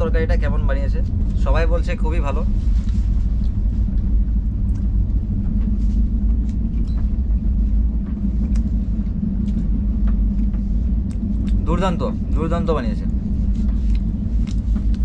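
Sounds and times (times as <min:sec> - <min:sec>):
train rumble from inside coach: 0:00.0 - 0:15.0.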